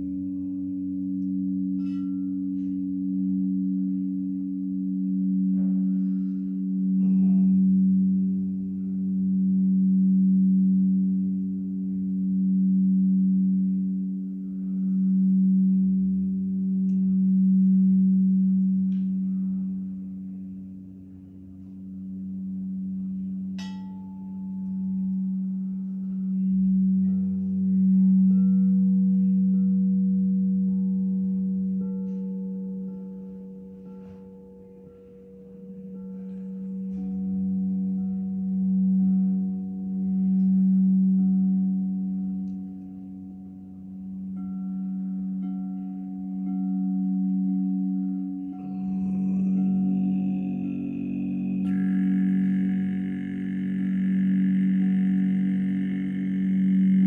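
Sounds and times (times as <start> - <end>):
higher bowl tone struck: 0.0 - 57.0
singing bowls ringing low tone: 0.0 - 57.0.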